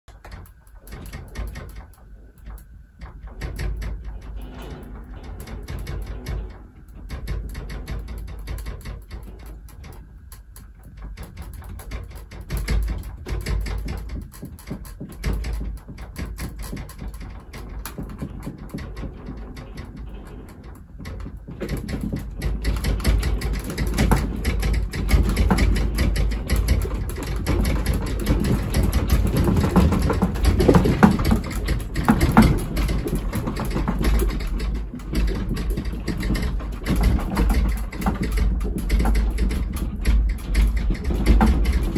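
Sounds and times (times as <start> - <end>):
building and furnishings rattling: 0.0 - 41.9
earthquake low rumble: 0.3 - 41.9.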